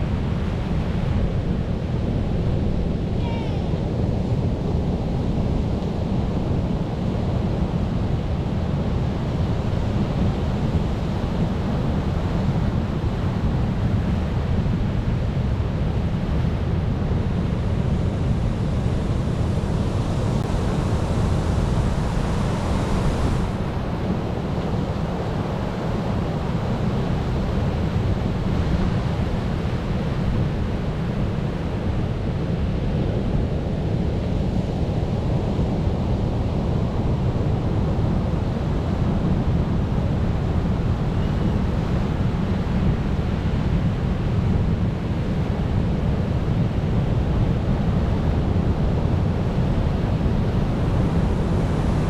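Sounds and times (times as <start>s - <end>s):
ocean surf washing: 0.0s - 52.0s.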